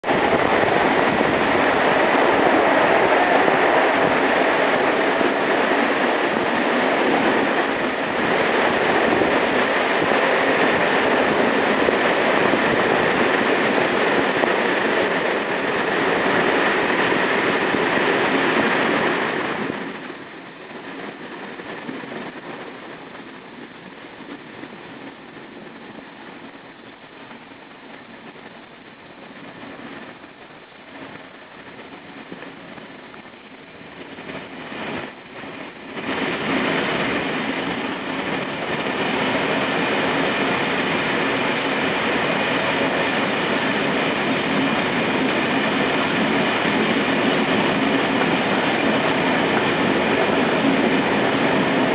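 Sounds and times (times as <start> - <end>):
train rushing on rails: 0.0 - 51.9.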